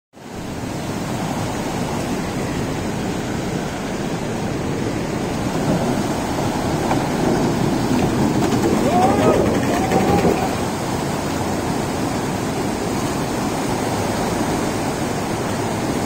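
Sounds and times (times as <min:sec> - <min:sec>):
floodwater rushing: 0:00.2 - 0:16.0.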